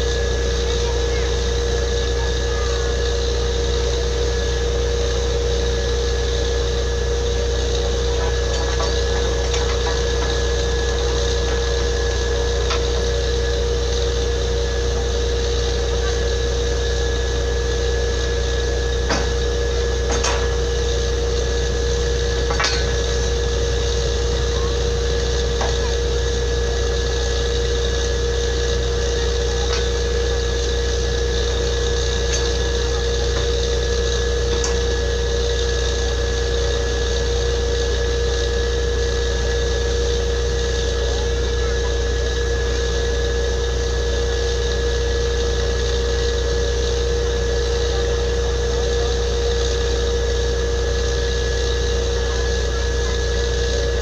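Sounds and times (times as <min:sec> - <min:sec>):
heavy engine drone: 0:00.0 - 0:54.0
machine whining tone: 0:00.0 - 0:54.0.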